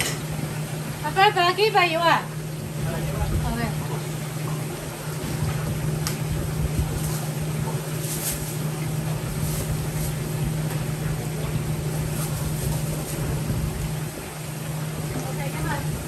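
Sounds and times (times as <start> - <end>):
kitchen machinery low hum: 0.0 - 16.0.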